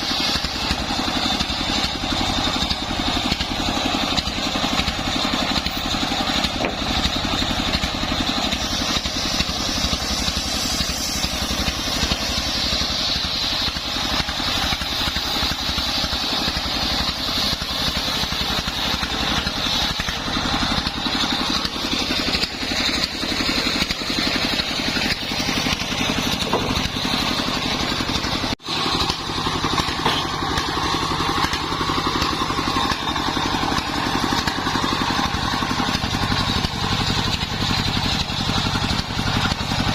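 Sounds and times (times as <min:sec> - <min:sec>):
circular sawmill cutting wood: 0:00.0 - 0:39.9.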